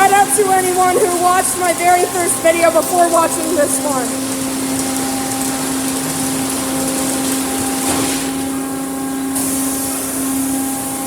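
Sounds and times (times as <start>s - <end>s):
electric pump hum: 0.0s - 11.0s
water spraying hiss: 0.0s - 11.0s.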